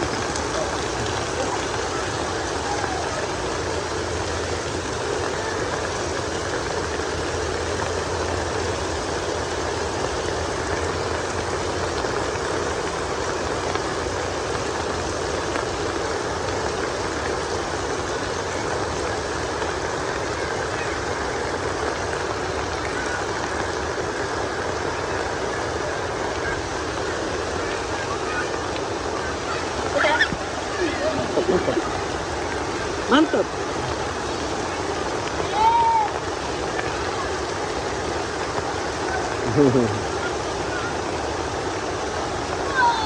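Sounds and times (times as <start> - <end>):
heavy rain falling: 0.0 - 43.0.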